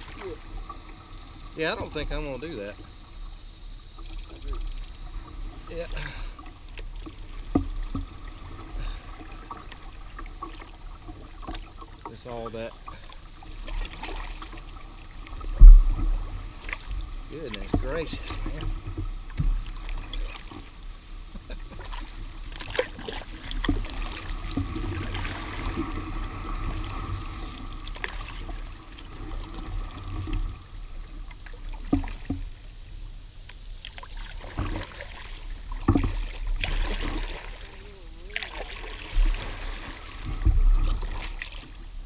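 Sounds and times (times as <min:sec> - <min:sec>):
paddle splashing in water: 0:00.0 - 0:03.2, 0:03.9 - 0:42.0.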